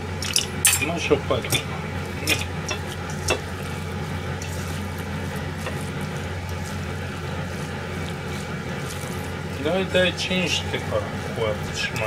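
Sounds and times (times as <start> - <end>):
hand stirring minced meat: 0.0 - 12.0
low hum and hiss: 0.0 - 12.0.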